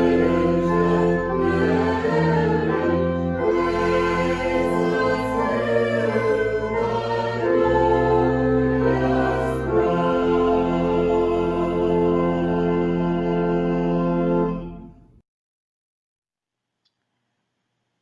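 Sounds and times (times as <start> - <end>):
choir singing sustained chords: 0.0 - 14.9.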